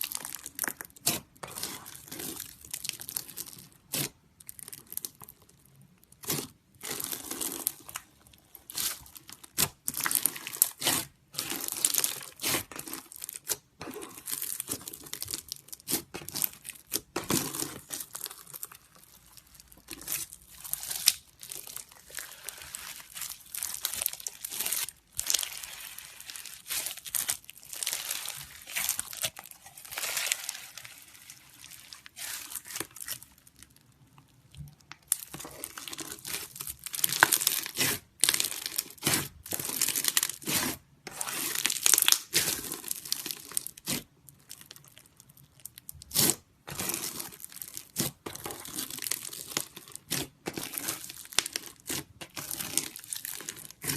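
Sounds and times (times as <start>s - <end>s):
crunchy slime crackling: 0.0s - 53.9s.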